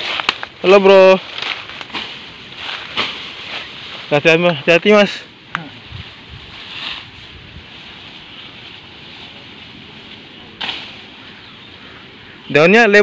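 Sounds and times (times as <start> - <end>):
bamboo leaves rustling: 0.0 - 13.0
steady outdoor hiss: 0.0 - 13.0.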